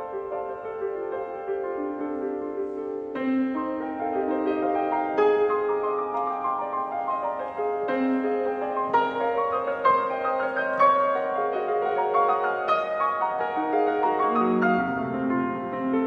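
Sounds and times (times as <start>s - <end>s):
grand piano playing sustained notes: 0.0s - 16.0s.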